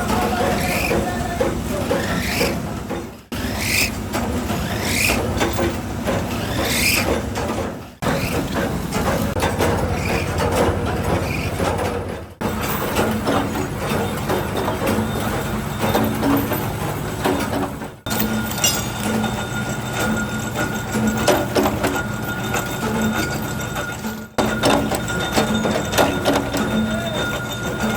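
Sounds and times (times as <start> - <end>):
workshop machinery humming: 0.0 - 27.9.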